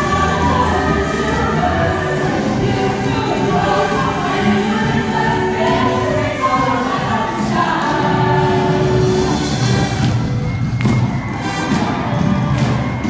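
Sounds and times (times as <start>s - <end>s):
choir singing: 0.0s - 10.6s
music: 0.0s - 13.0s.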